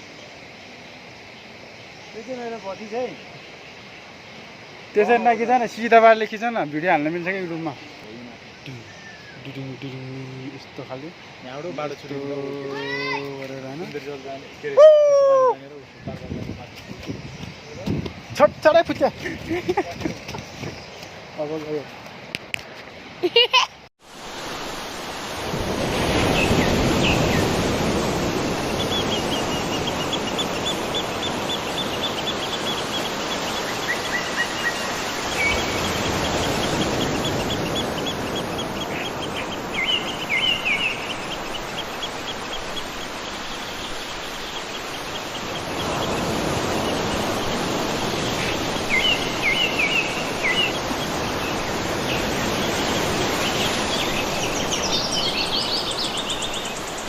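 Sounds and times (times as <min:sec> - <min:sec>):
birds chirping trills: 0:00.0 - 0:22.0, 0:25.9 - 0:57.0
rushing waterfall and stream: 0:00.0 - 0:57.0.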